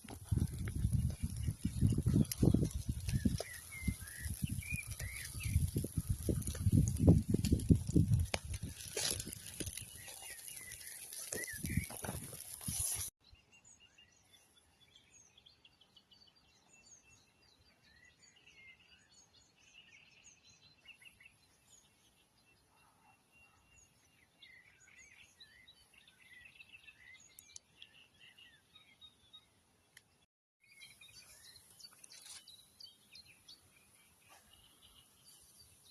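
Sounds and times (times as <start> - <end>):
birds chirping and singing: 0.1 - 29.6, 30.7 - 35.9.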